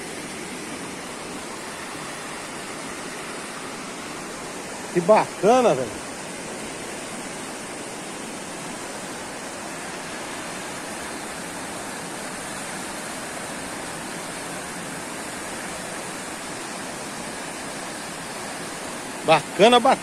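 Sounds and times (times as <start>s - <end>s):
river rushing over rapids: 0.0s - 20.0s.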